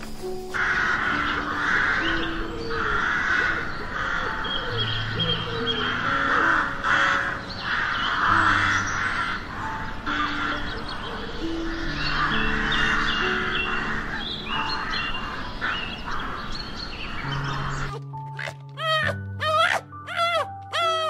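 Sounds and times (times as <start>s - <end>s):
soft background music: 0.0s - 21.0s
crows cawing: 0.5s - 21.0s.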